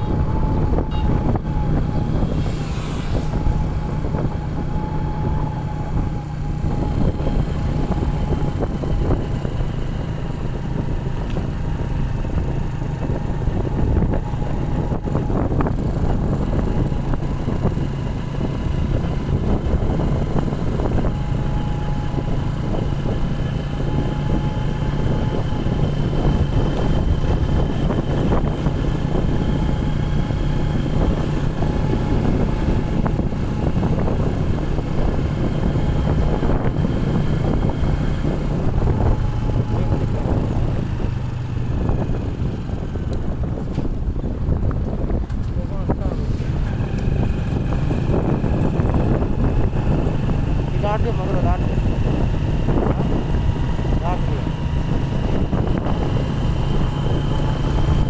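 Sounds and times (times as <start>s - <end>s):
vehicle engine humming: 0.0s - 58.0s
wind buffeting microphone: 0.0s - 58.0s.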